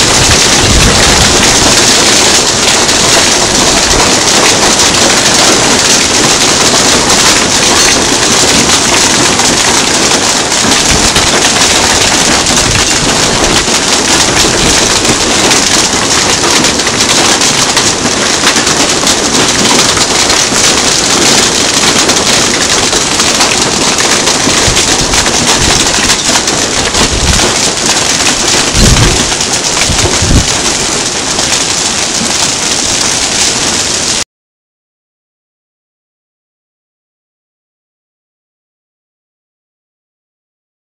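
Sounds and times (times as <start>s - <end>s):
hail and rain on wooden deck: 0.0s - 34.2s.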